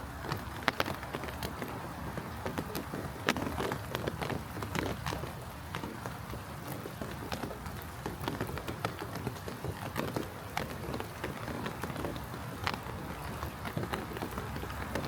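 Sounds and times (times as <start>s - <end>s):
raindrops tapping: 0.0s - 15.0s
soft rain hiss: 0.0s - 15.0s.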